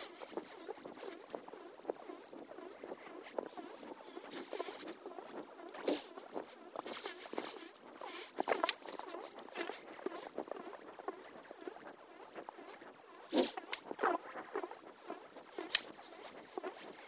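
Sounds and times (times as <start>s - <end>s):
rustling scrapes: 0.0s - 17.0s
scratchy crackling and pattering: 0.0s - 17.0s.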